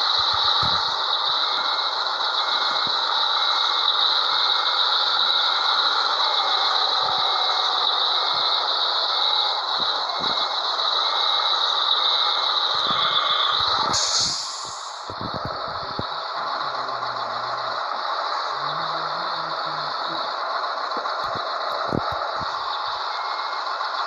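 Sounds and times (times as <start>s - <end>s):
truck rattling and running: 0.0s - 24.0s.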